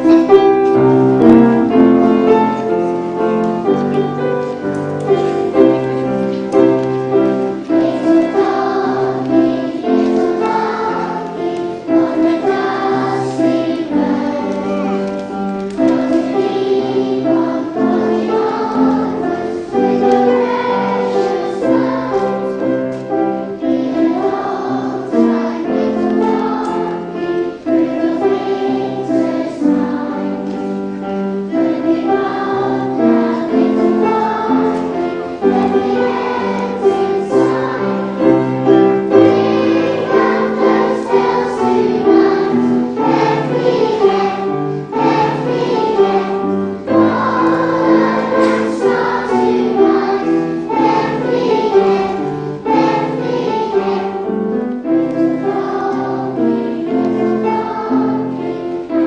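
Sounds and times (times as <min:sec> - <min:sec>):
children's choir singing: 0:00.0 - 0:59.0
piano accompaniment: 0:00.0 - 0:59.0.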